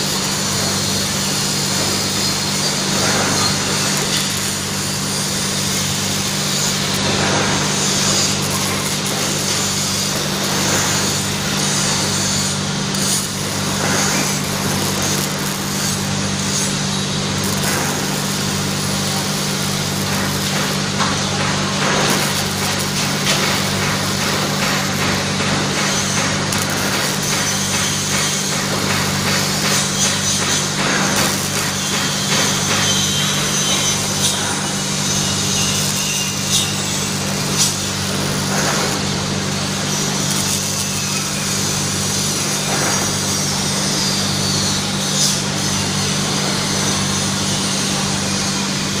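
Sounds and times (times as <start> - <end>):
welding arc crackling and hissing: 0.0 - 49.0.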